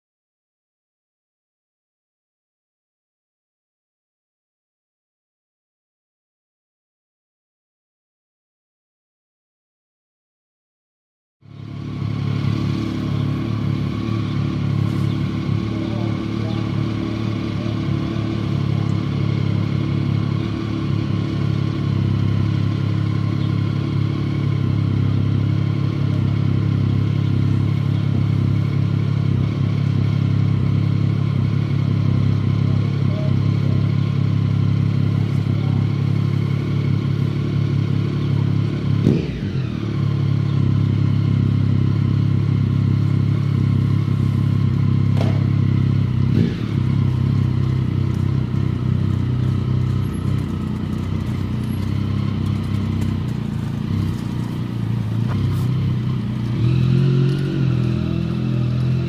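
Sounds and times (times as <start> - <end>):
low engine drone: 11.4 - 59.0.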